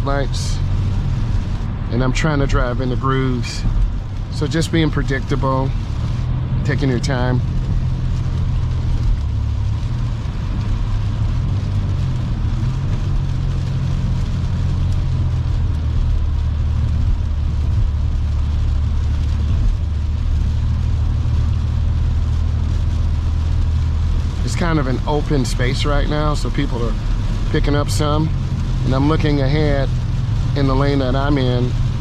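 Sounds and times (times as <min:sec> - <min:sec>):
car driving on wet road: 0:00.0 - 0:32.0.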